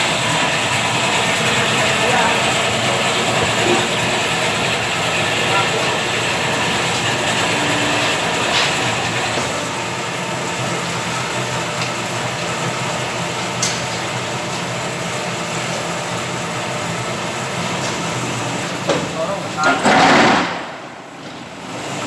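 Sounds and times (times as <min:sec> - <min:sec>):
block press machine running: 0:00.0 - 0:22.0.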